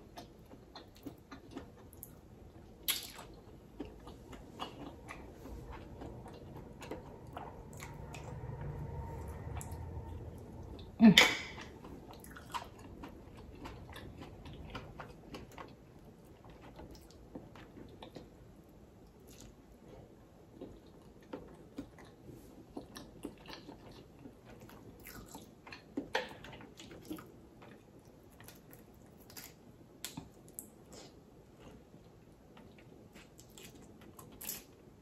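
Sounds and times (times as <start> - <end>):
chewing and wet mouth sounds: 0.0 - 10.9, 11.5 - 35.0.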